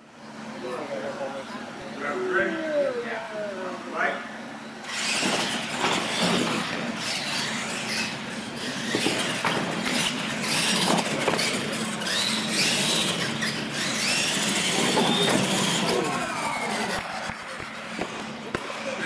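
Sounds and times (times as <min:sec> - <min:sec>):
rc truck motors whining: 0:00.5 - 0:19.0.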